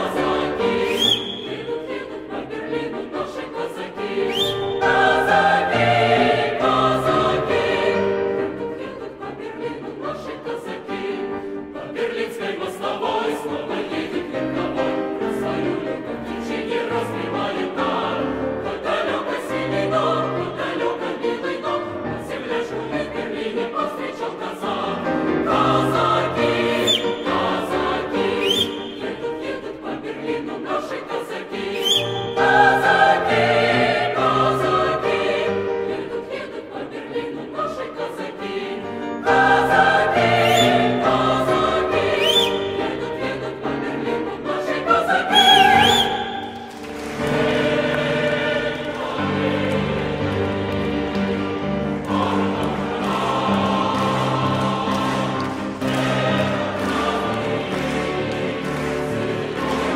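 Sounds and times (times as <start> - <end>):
grand piano accompaniment: 0.0 - 59.9
mixed choir singing: 0.0 - 59.9.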